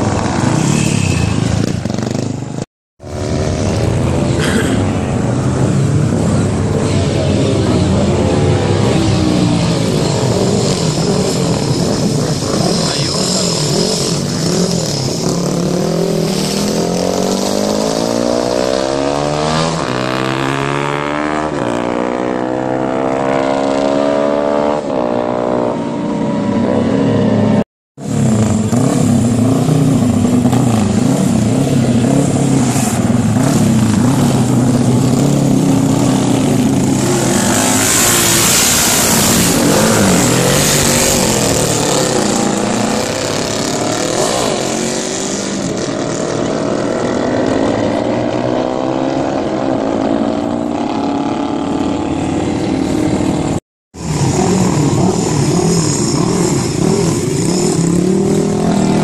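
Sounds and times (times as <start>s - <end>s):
motorcycle engines passing by: 0.0s - 59.0s.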